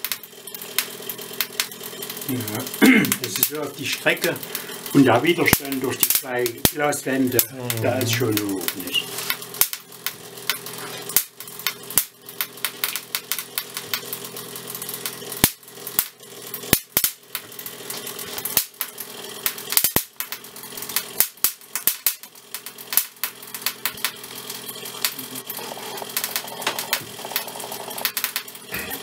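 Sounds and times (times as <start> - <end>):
electrical hum: 0.0 - 29.0
high-voltage sparks snapping: 0.0 - 29.0.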